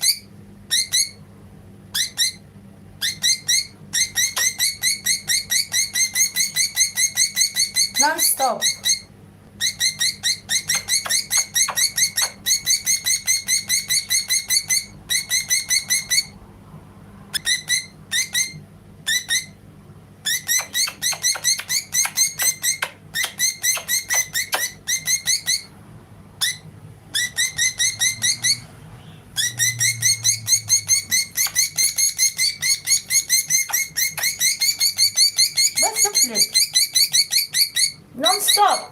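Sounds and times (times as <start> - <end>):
budgie chirping: 0.0 - 1.2, 1.9 - 16.4, 17.3 - 19.6, 20.2 - 25.7, 26.4 - 38.9.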